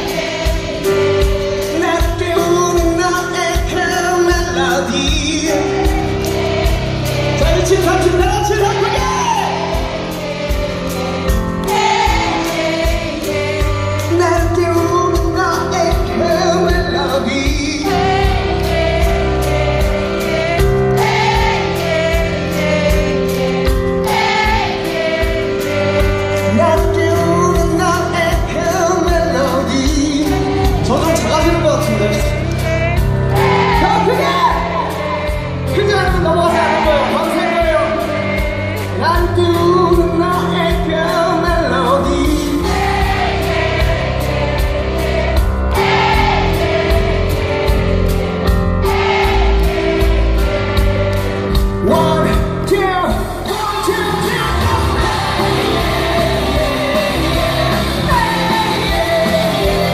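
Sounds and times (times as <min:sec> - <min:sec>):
drum and cymbal beat: 0:00.0 - 0:59.9
live band music: 0:00.0 - 0:59.9
many voices singing along: 0:00.0 - 0:59.9.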